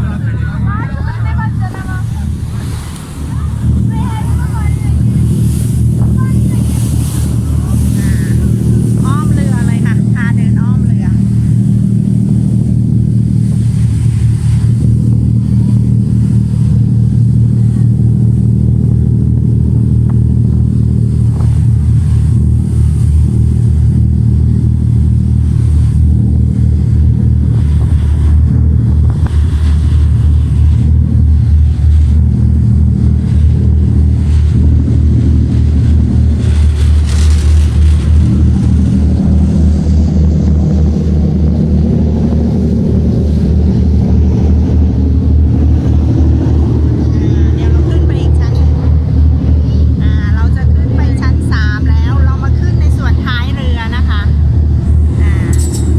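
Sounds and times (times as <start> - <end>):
ferry engines droning: 0.0 - 55.9.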